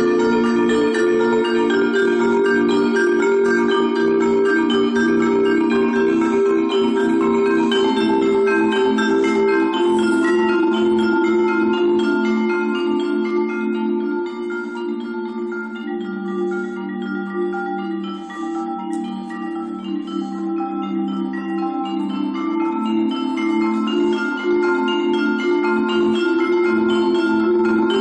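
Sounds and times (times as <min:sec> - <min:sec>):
marimba ensemble playing chords: 0:00.0 - 0:28.0.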